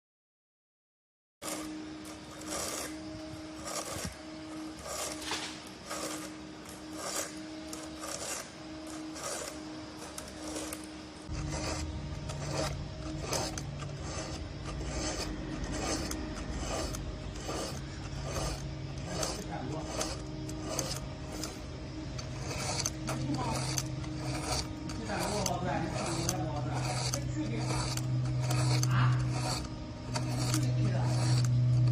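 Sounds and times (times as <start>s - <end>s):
file scraping chainsaw chain: 1.4s - 31.9s.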